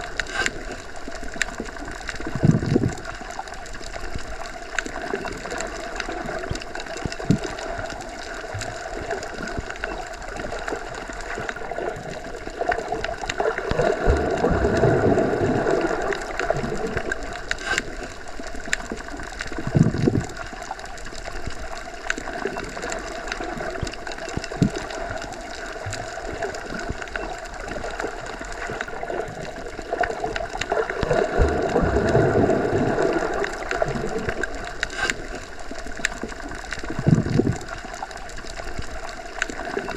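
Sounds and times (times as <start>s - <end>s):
faint clicks underwater: 0.0s - 39.9s
rushes of water: 0.0s - 39.9s
underwater water noise: 0.0s - 39.9s.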